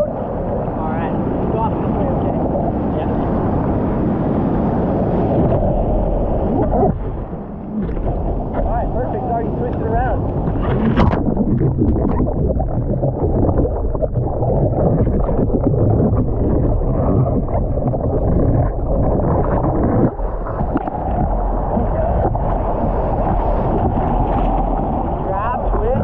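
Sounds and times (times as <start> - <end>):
surf whitewater rushing: 0.0 - 26.0.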